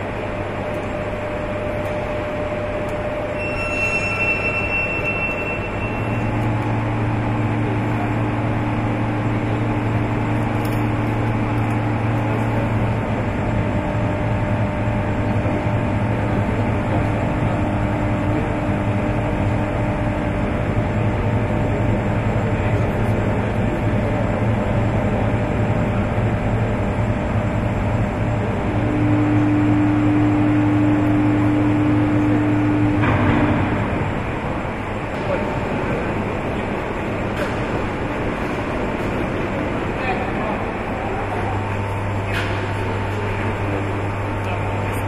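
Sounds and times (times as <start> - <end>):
machinery low hum: 0.0 - 45.0.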